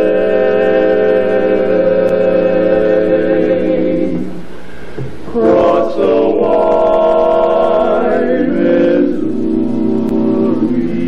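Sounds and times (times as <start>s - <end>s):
male quartet singing a cappella: 0.0s - 4.5s, 5.3s - 11.0s.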